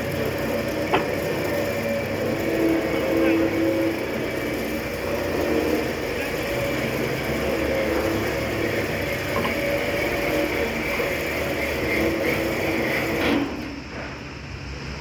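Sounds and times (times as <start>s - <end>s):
motor running: 0.0s - 13.7s.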